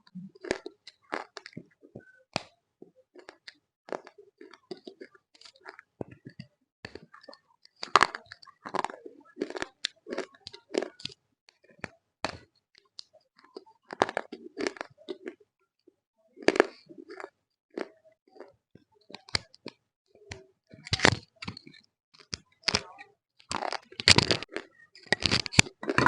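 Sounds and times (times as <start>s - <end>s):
biting and chewing clay: 0.0s - 26.0s.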